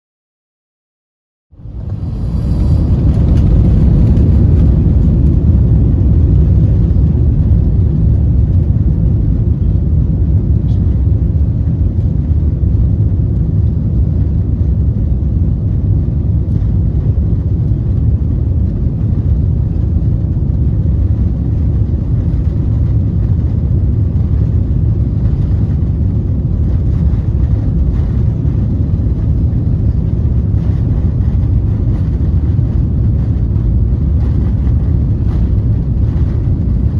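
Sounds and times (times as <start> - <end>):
airliner engines deep rumble: 1.5 - 36.9.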